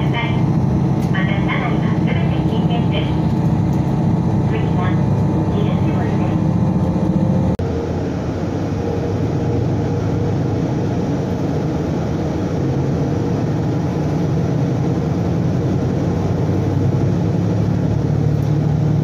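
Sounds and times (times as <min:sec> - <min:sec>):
diesel train engine humming: 0:00.0 - 0:19.0.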